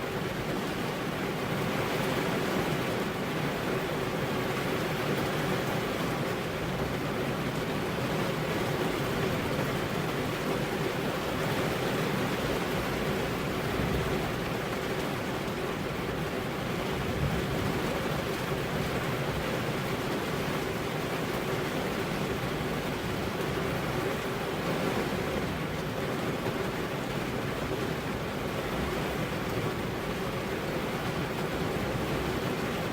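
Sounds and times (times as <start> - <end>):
rain on car window: 0.0 - 32.9.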